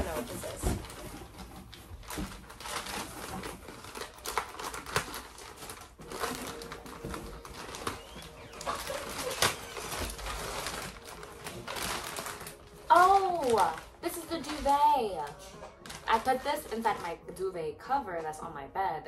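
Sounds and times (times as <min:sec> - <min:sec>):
plastic packaging crinkling: 0:00.0 - 0:17.5.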